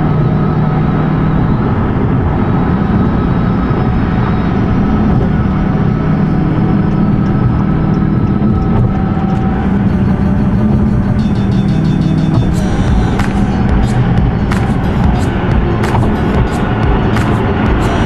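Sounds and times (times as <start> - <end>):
car engine: 0.0 - 18.0
road noise: 0.0 - 18.0.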